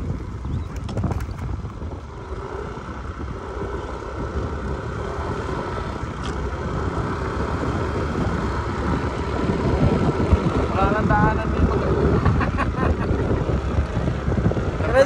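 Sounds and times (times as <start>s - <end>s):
motor scooter engine droning: 0.0s - 15.0s
wind and road noise: 0.0s - 15.0s.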